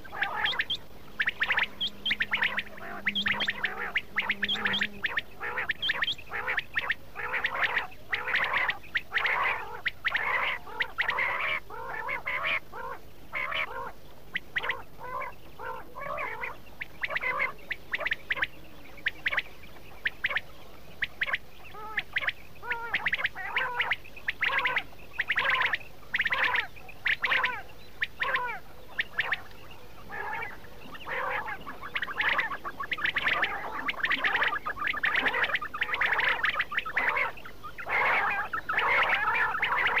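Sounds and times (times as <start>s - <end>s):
quail calling: 0.0s - 40.0s.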